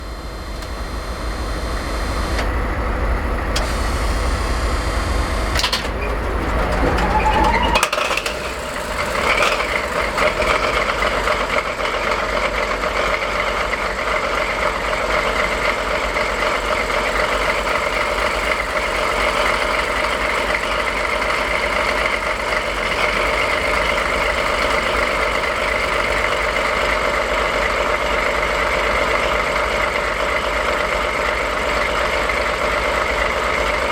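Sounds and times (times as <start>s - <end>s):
diesel engine idling: 0.0s - 33.9s
diesel engine starting: 0.0s - 33.9s.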